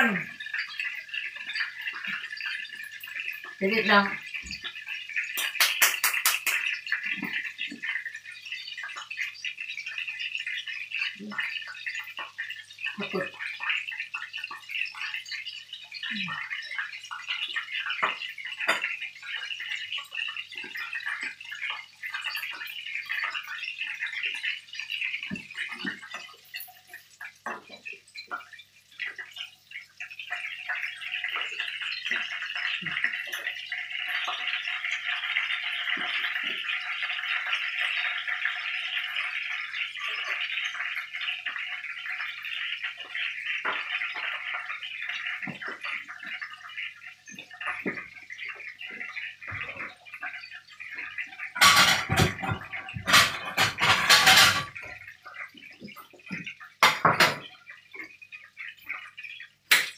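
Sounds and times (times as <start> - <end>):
patties sizzling in hot oil: 0.0 - 59.9.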